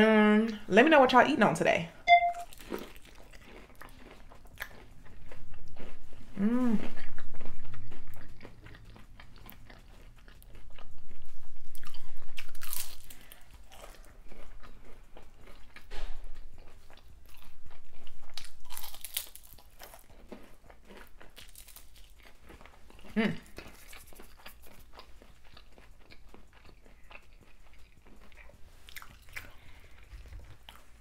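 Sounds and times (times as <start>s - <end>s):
crunchy food chewing: 2.4s - 31.0s.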